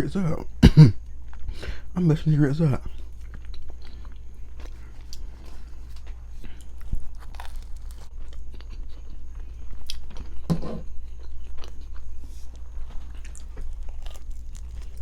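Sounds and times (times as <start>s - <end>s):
person chewing food: 2.8s - 15.0s.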